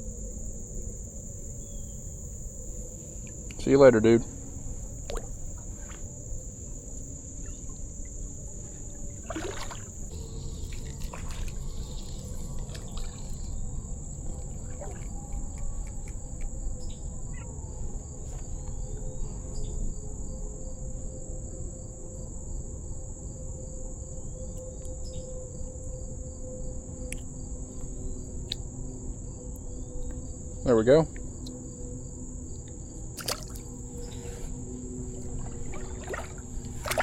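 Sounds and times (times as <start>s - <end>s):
crickets singing: 0.0s - 37.0s.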